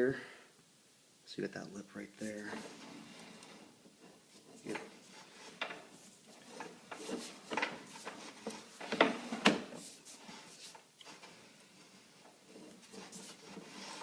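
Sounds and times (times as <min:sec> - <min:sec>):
rustles: 0:02.2 - 0:14.0.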